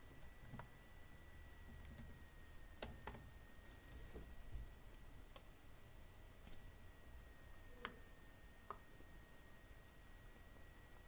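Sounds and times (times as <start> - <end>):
faint high-pitched tone: 0.0 - 11.0.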